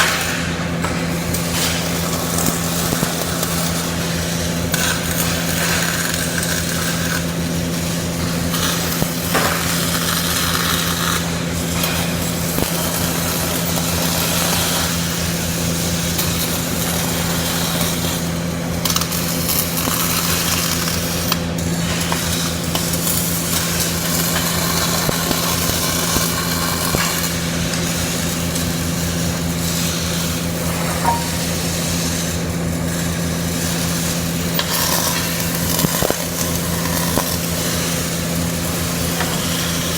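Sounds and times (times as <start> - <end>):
low machine hum: 0.0 - 39.9
welding arc crackling: 0.0 - 39.9.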